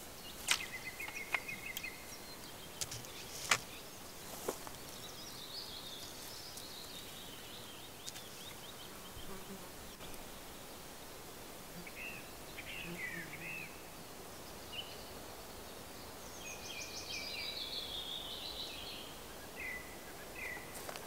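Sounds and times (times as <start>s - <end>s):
bird warbling song: 0.0s - 10.7s, 11.8s - 21.0s
birds chirping: 0.0s - 11.2s, 11.8s - 21.0s.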